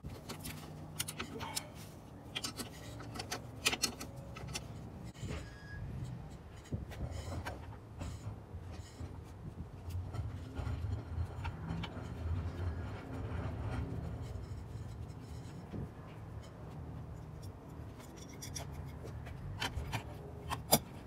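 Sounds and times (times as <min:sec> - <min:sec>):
hand tools and metal parts clattering: 0:00.0 - 0:21.0
low steady rumble: 0:00.0 - 0:21.0.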